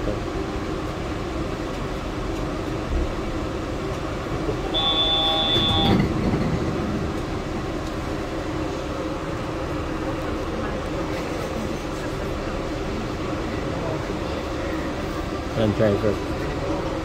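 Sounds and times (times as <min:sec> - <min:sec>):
train rumble inside cabin: 0:00.0 - 0:17.0.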